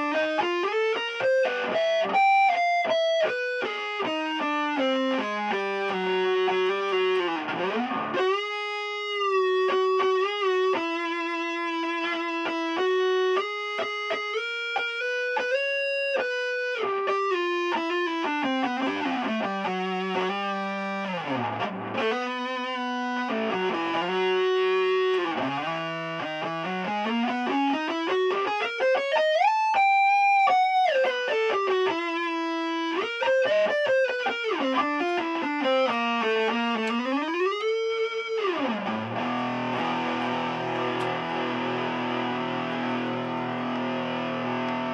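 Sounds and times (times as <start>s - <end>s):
distorted electric guitar lead: 0.0s - 44.9s.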